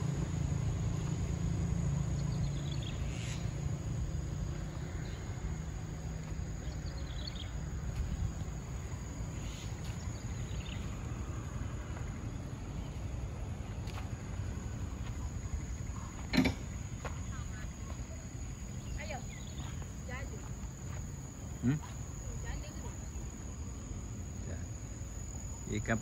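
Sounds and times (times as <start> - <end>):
high insect drone: 0.0 - 26.0
steady low rumble: 0.0 - 26.0
faint chirps: 1.9 - 26.0.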